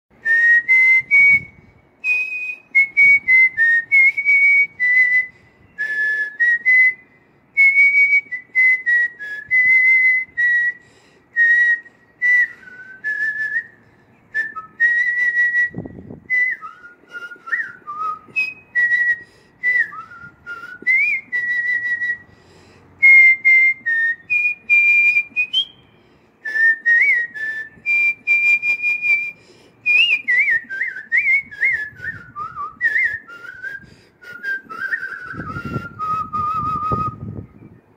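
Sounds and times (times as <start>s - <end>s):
person whistling a tune: 0.2s - 22.3s, 23.0s - 37.9s.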